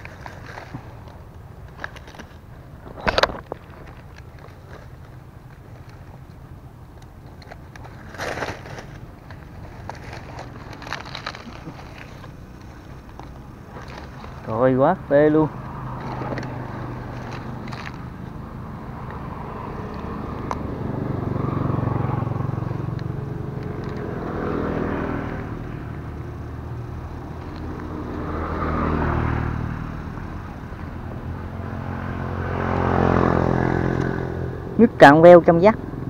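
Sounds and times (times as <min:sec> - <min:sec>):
vehicle engines passing: 0:00.0 - 0:36.0.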